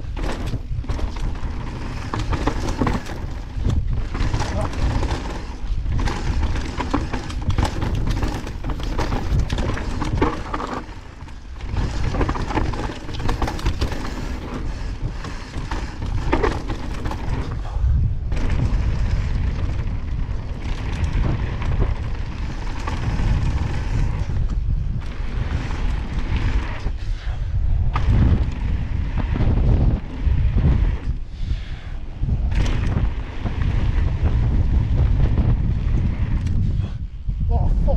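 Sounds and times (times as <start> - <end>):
tyres rolling over gravel: 0.0 - 31.2
bike knocking and rattling: 0.0 - 37.9
wind rumbling on microphone: 0.0 - 37.9.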